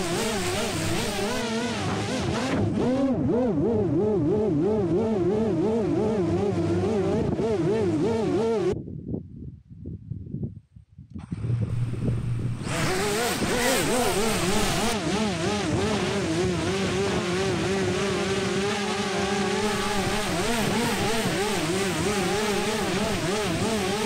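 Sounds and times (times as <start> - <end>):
drone propellers buzzing: 0.0 - 8.8, 11.3 - 24.0.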